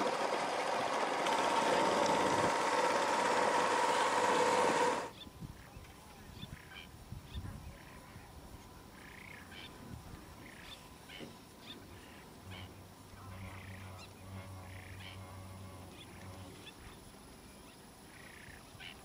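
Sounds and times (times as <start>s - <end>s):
low steady hum: 0.0s - 18.5s.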